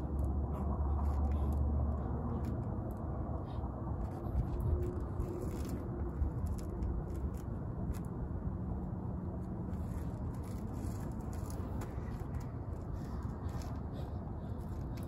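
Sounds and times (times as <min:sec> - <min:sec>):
distant traffic rumble: 0:00.0 - 0:15.0
faint hum: 0:00.0 - 0:15.0.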